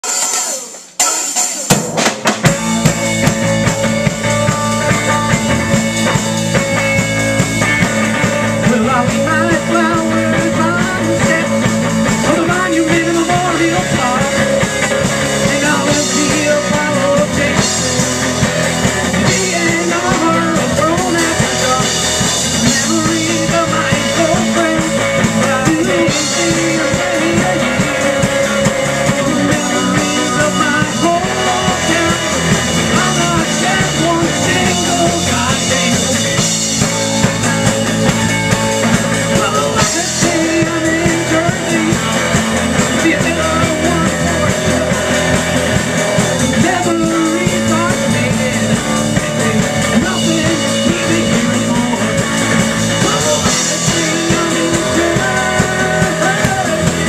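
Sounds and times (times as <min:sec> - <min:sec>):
drum hits: 0:00.0 - 0:57.0
person singing: 0:00.0 - 0:57.0
rock band playing: 0:00.0 - 0:57.0.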